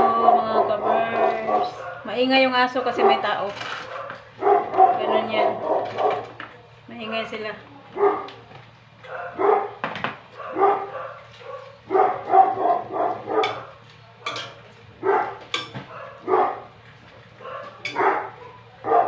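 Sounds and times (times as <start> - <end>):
dogs barking: 0.0 - 6.4, 7.9 - 19.0.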